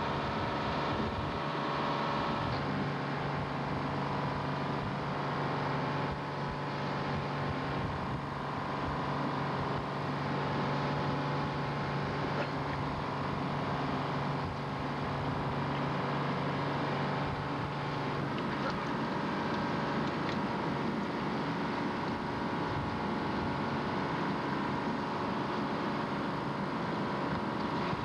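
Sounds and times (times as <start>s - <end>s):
boat engine droning: 0.0s - 28.0s
low hum: 0.0s - 28.0s.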